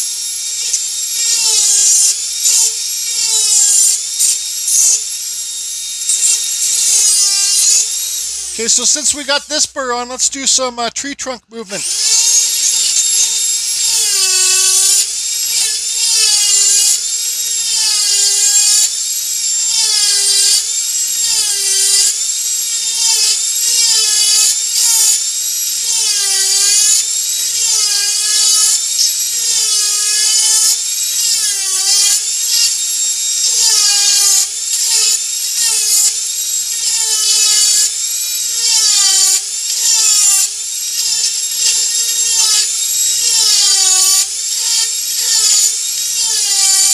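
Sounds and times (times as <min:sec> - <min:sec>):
rotary tool whining: 0:00.0 - 0:10.6, 0:11.5 - 0:46.9.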